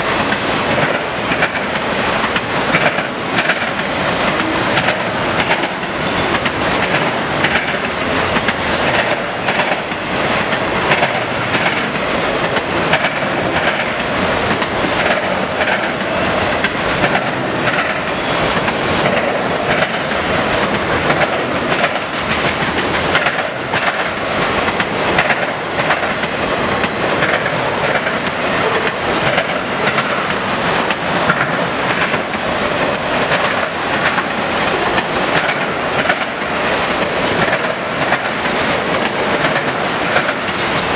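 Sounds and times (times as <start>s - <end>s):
freight train rolling past: 0.0s - 40.9s
steel wheels clattering over rail joints: 0.0s - 40.9s.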